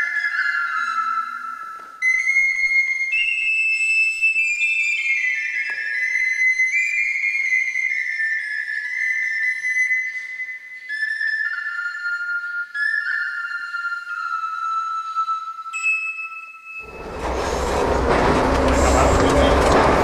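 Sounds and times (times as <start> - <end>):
wooden flute melody: 0.0 - 20.0.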